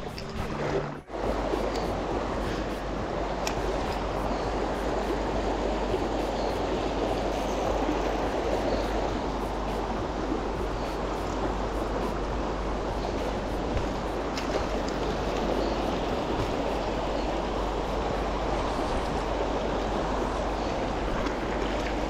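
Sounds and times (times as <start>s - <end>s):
river water running over rocks: 0.0s - 22.0s.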